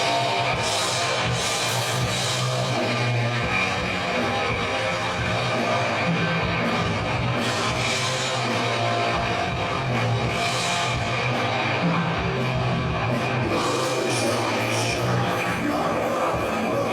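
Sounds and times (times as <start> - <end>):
distorted electric guitar: 0.0 - 16.9
drum kit: 0.0 - 16.9.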